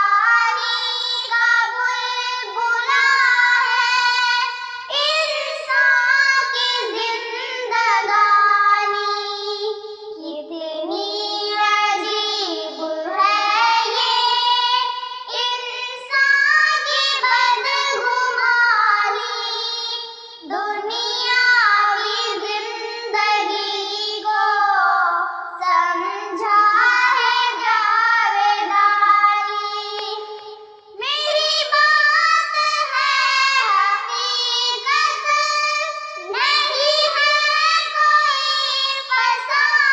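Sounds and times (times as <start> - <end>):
girls singing in unison: 0.0 - 39.9.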